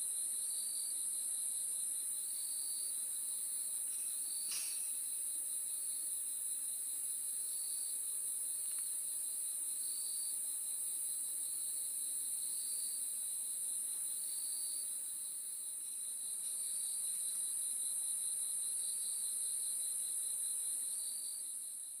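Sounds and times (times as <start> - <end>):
crickets trilling and chirping: 0.0 - 22.0.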